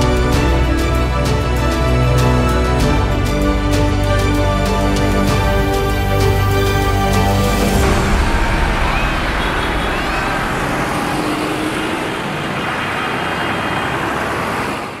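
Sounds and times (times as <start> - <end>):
tractor diesel engines passing: 0.0 - 15.0.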